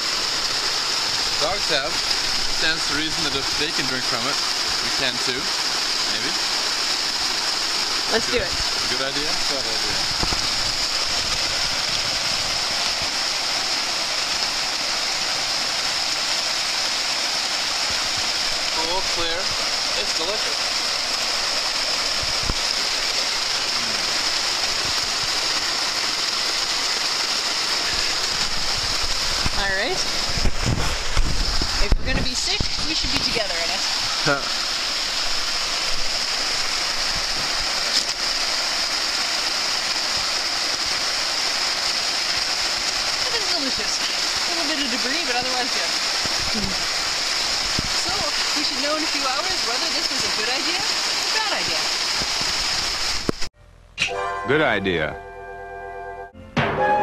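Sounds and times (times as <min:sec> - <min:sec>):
waterfall over rocks: 0:00.0 - 0:53.5.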